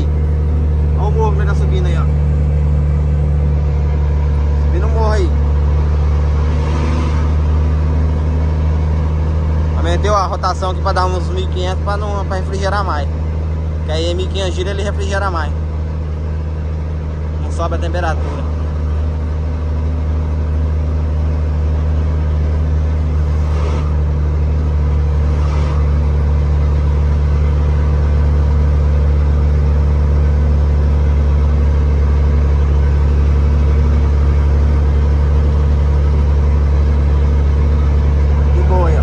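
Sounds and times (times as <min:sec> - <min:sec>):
truck diesel engine pulling under load: 0:00.0 - 0:39.0.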